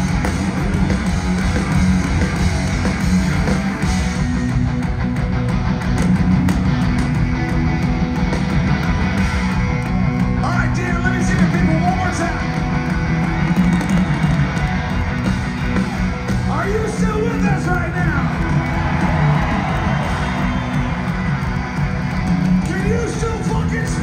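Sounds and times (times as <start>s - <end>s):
bass: 0.0s - 24.0s
drums: 0.0s - 24.0s
electric guitars: 0.0s - 24.0s.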